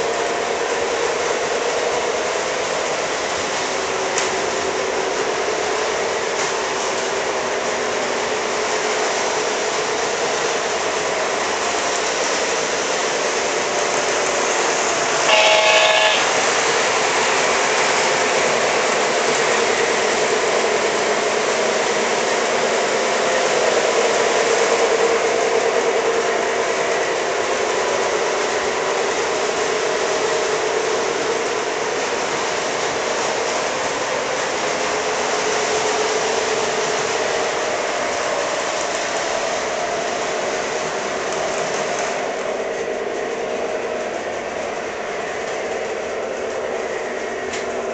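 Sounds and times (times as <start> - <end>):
model trains whirring on track: 0.0 - 47.9.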